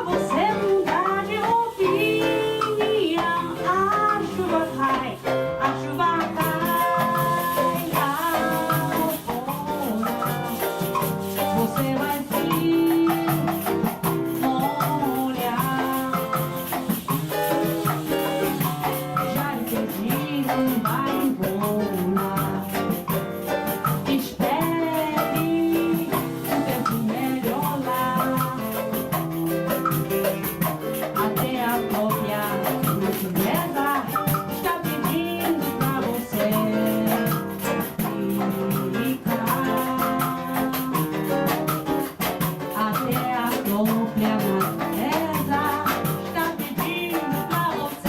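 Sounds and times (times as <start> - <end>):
hand percussion rattle: 0.0 - 48.0
plucked cavaquinho: 0.0 - 48.0
seven-string guitar: 0.0 - 48.0.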